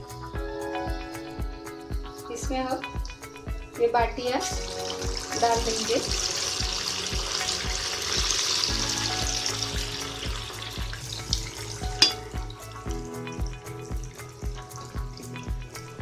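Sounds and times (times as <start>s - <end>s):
food sizzling in hot oil: 1.2s - 16.0s.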